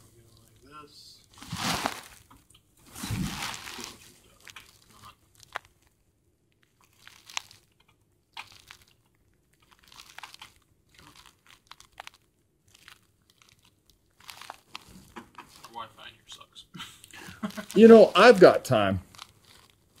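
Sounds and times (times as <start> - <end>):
soft rustling: 1.2 - 6.0, 6.6 - 16.1, 17.4 - 20.0.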